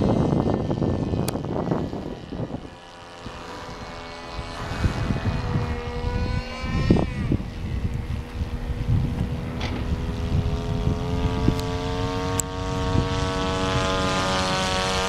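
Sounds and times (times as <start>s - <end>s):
model plane engine droning: 0.0s - 15.0s.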